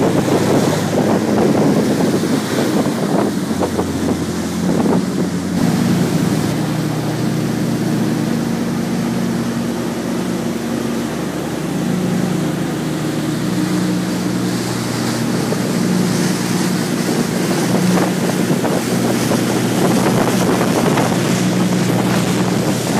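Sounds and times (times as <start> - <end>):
motorboat engines running: 0.0 - 22.9
water rushing past hull: 0.0 - 22.9
wind buffeting microphone: 0.0 - 22.9.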